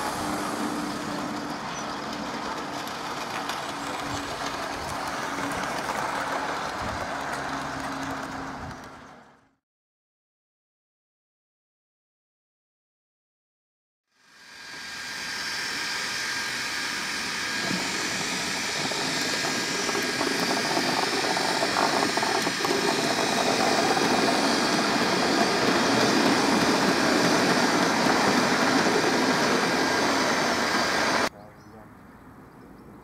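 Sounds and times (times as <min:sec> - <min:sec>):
model train running: 0:00.0 - 0:09.5, 0:14.2 - 0:31.3.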